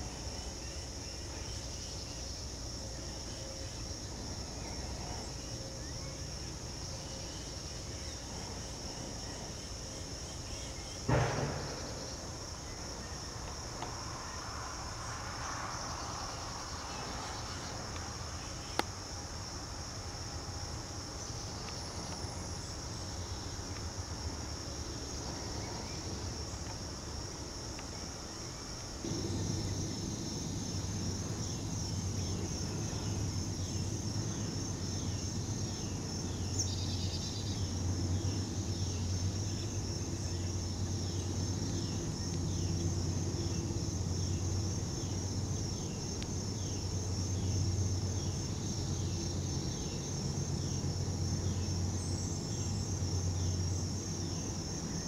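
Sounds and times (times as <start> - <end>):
high-pitched insect chorus: 0.0 - 55.0
low steady hum: 0.0 - 55.0.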